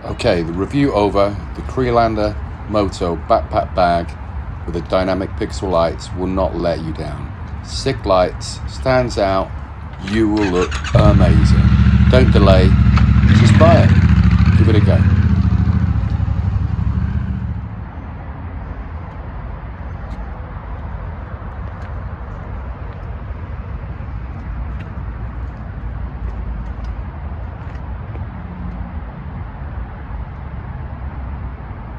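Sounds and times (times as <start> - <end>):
low rumble of road vehicles: 0.0 - 31.9.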